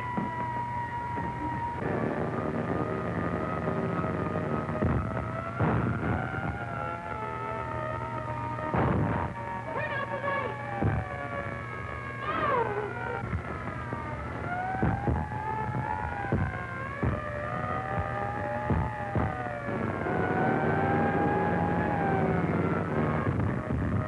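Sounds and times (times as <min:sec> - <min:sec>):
wavering air-raid siren drone: 0:00.0 - 0:24.0.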